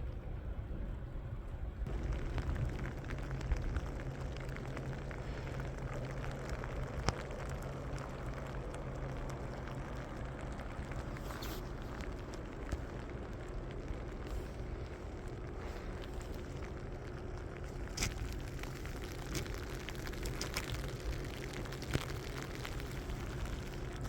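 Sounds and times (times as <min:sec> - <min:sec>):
low wind rumble: 0:00.0 - 0:24.0
snow and ice pellets pattering: 0:01.9 - 0:24.0.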